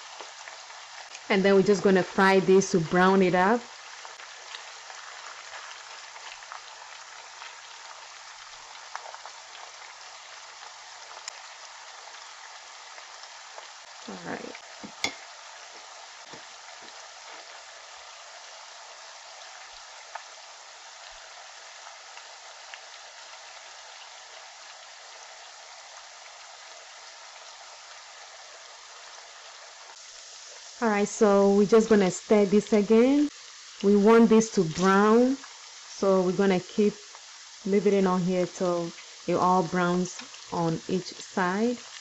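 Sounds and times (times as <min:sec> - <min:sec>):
meat sizzling in oil: 0:00.0 - 0:42.0.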